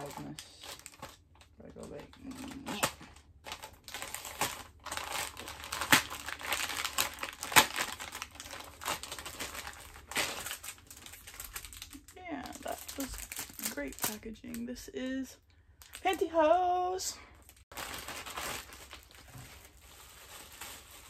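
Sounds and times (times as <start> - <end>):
plastic packaging crinkling: 0.0 - 14.8, 17.4 - 21.0.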